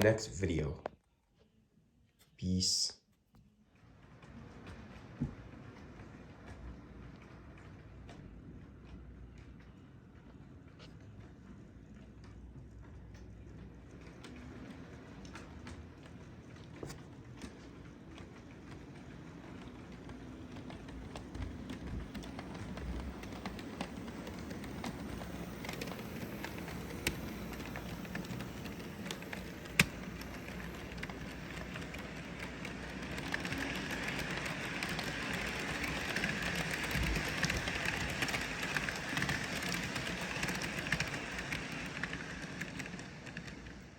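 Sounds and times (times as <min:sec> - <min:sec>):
model train running on track: 0:00.0 - 0:00.7, 0:03.8 - 0:43.9.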